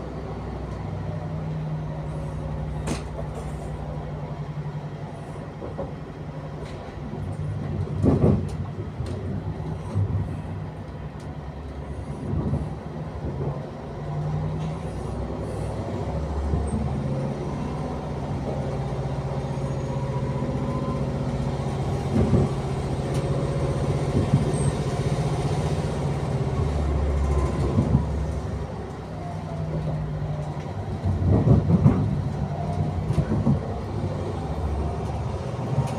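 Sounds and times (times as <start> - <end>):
train rumble and hum: 0.0 - 35.9.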